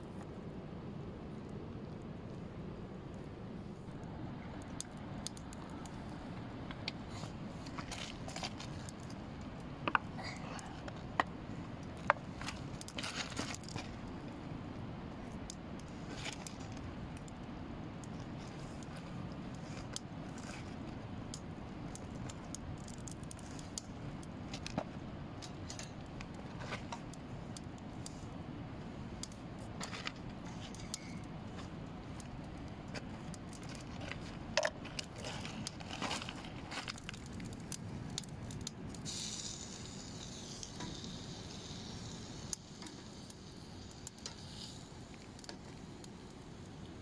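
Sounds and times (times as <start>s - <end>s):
steady low rush: 0.0s - 40.2s.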